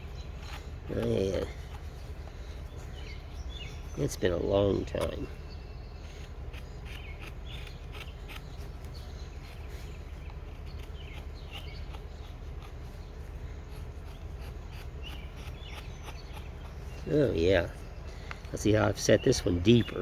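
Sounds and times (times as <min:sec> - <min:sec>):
knife whittling wood: 0:00.0 - 0:17.5
bird chirping: 0:00.0 - 0:20.0
low outdoor hum: 0:00.0 - 0:20.0.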